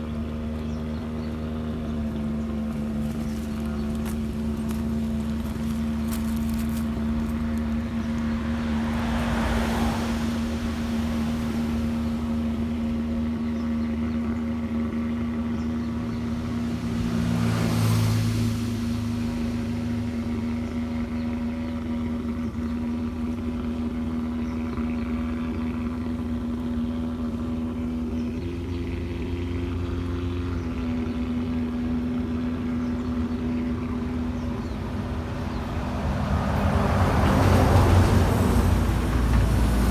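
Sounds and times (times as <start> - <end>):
steady engine hum: 0.0 - 39.9
vehicles passing by: 0.0 - 39.9.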